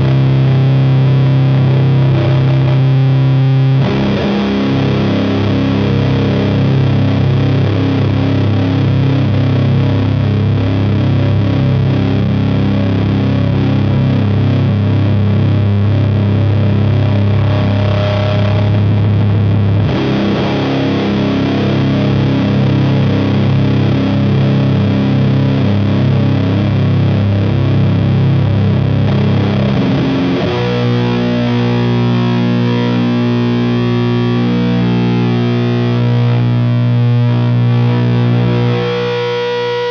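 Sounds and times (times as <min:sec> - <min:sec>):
distorted electric guitar drone chords: 0:00.0 - 0:39.9.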